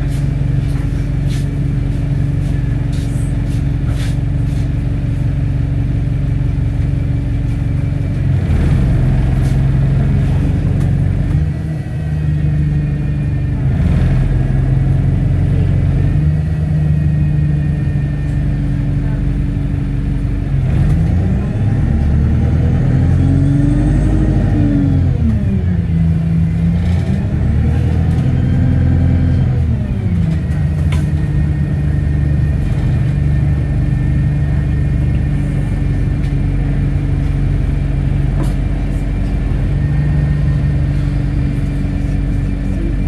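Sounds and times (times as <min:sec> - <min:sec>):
bus engine revving and idling: 0:00.0 - 0:43.0.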